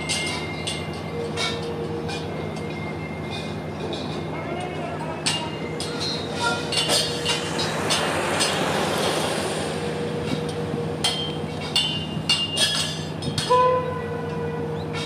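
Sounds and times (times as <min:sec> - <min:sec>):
sharp metallic clanks: 0:00.0 - 0:13.8
diesel locomotive engine hum: 0:00.0 - 0:15.0.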